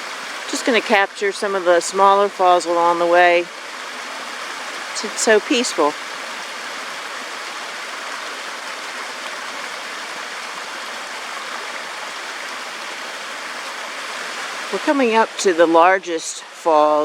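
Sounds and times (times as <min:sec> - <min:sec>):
creek waterfalls splashing: 0:00.0 - 0:17.0.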